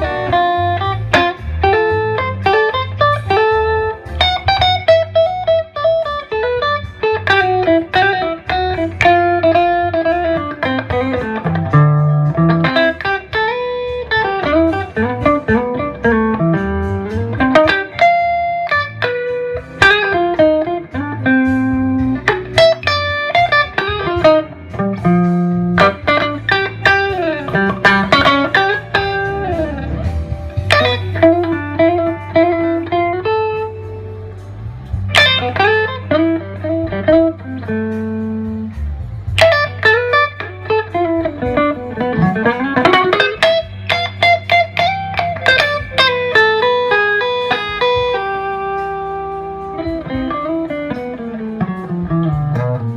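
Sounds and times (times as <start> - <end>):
electric guitar lead line: 0.0 - 52.9.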